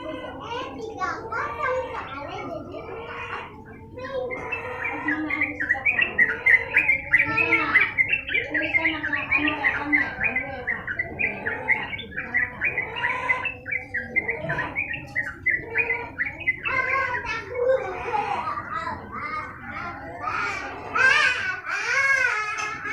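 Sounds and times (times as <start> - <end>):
bird singing bubbly phrases: 0.0 - 21.0.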